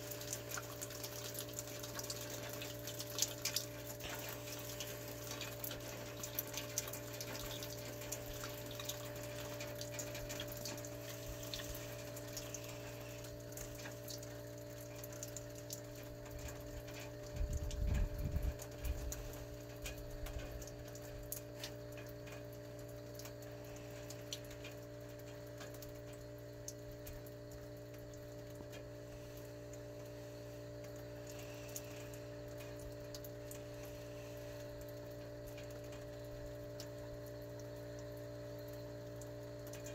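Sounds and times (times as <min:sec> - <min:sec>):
heat pump humming: 0:00.0 - 0:39.9
water trickling hiss: 0:00.0 - 0:39.9.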